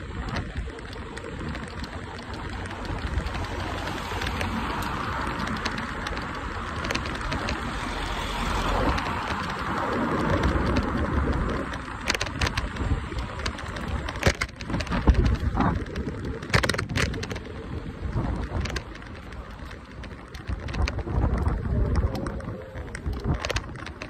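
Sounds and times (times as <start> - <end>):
road and traffic noise: 0.0 - 24.0
scooter knocking and rattling: 0.0 - 24.0
wind buffeting microphone: 0.0 - 24.0.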